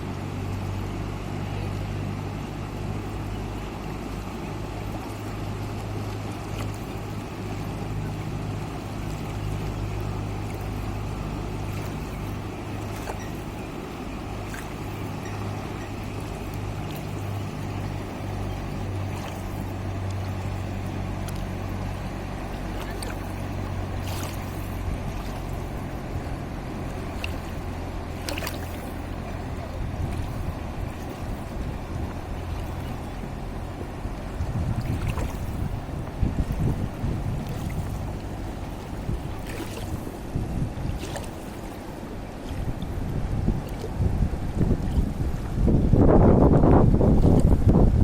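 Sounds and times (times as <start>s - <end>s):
river water rushing: 0.0s - 46.8s
faint water splashes: 0.0s - 48.0s
low rumble: 0.0s - 48.0s.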